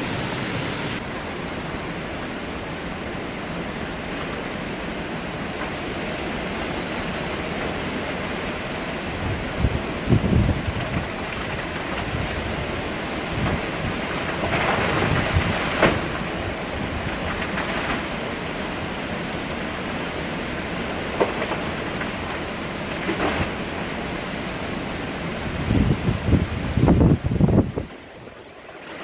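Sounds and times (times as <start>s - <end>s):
low rumbling wind buffets: 0.0s - 2.5s, 4.7s - 28.3s
rain and wind rushing: 0.0s - 29.0s.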